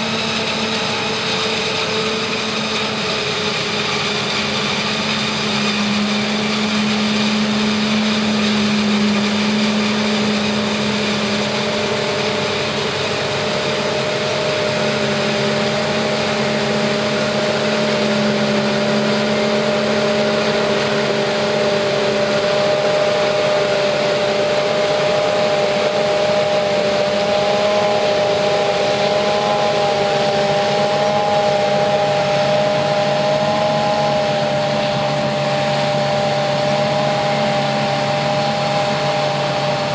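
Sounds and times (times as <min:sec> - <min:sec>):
forage harvester running: 0:00.0 - 0:39.9
high machine whine: 0:00.0 - 0:39.9
truck engine running: 0:00.0 - 0:39.9.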